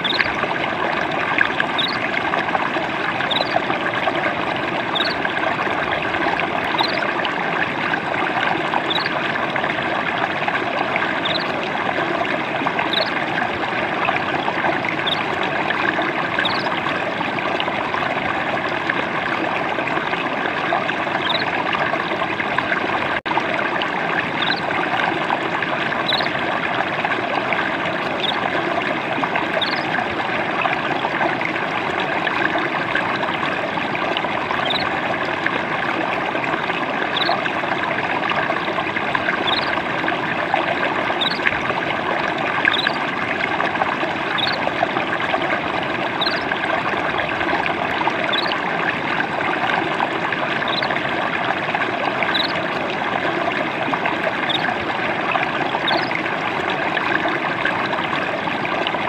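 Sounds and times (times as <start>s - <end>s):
stream of water trickling: 0.0s - 59.0s.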